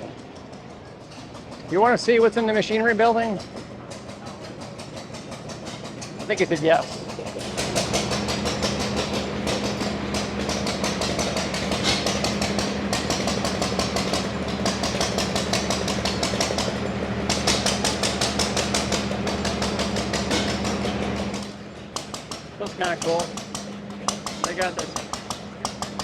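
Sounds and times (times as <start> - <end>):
small gas engine running: 0.0 - 26.0.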